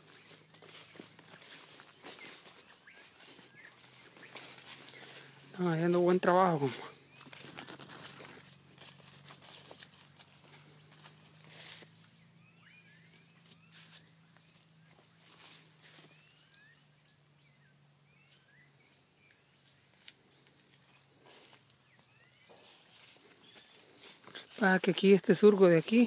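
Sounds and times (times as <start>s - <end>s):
footsteps through undergrowth: 0.0s - 16.8s, 18.1s - 26.0s
bird chirping: 0.0s - 26.0s.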